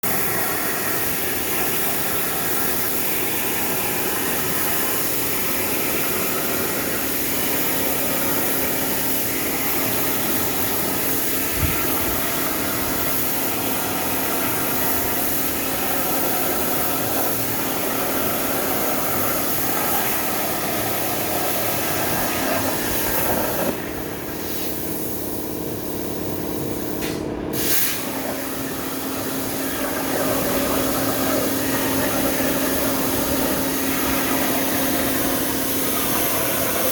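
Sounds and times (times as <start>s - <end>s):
machinery hum: 0.0s - 36.9s
plasma torch hissing: 0.0s - 36.9s.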